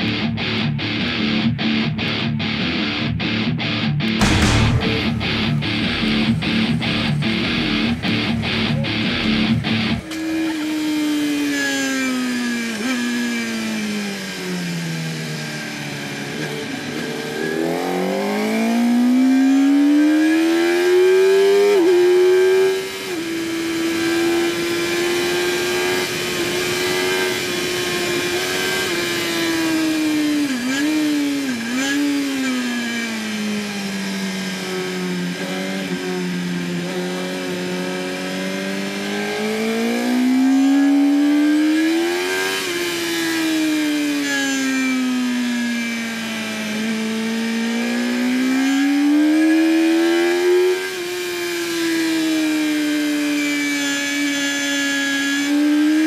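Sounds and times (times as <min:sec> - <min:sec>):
motorcycle engine revving: 0:04.2 - 0:56.0.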